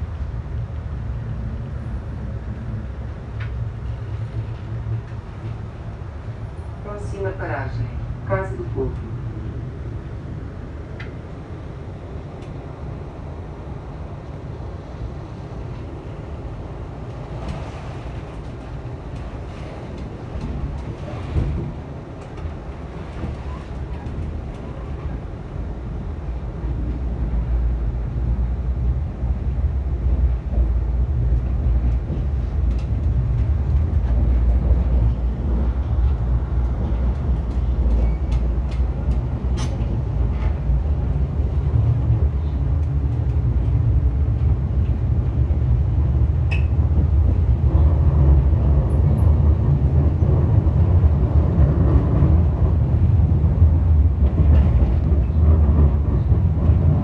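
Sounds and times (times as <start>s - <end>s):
tram rumbling on rails: 0.0s - 57.0s.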